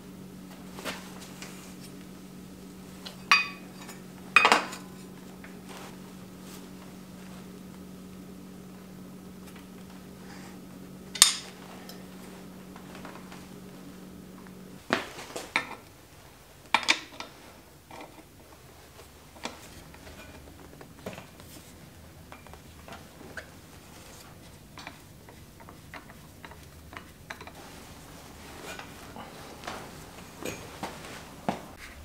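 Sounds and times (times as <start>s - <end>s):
spinning crank hum: 0.0s - 32.0s.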